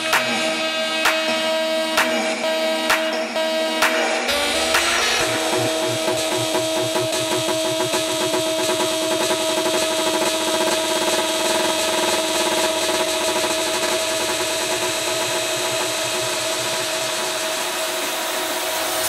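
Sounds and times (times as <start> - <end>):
minimal techno music: 0.0 - 19.0.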